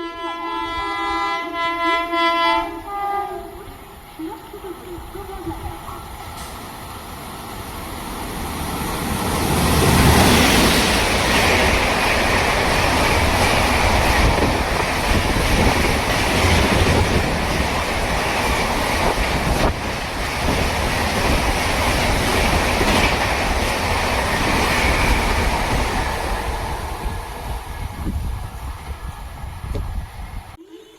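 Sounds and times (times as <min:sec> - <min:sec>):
train wheels rumbling on rails: 0:04.1 - 0:30.6.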